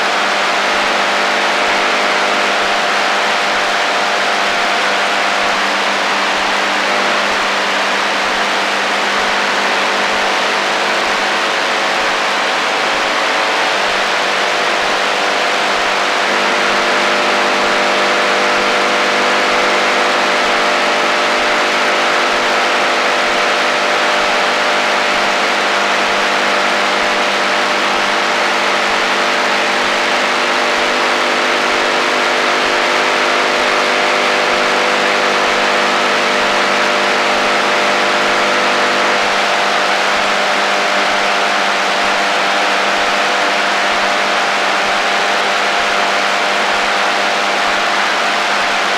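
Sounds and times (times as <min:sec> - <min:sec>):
radio static hiss: 0:00.3 - 0:41.8.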